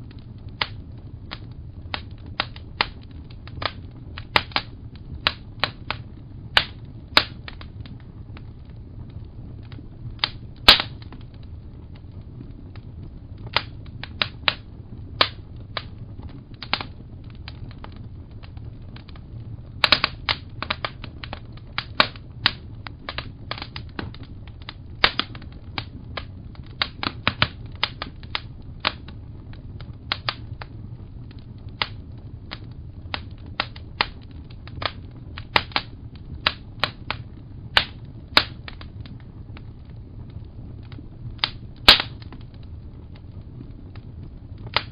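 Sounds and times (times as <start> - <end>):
low rumble: 0.0 - 44.9
wood fire crackling and popping: 0.0 - 44.9.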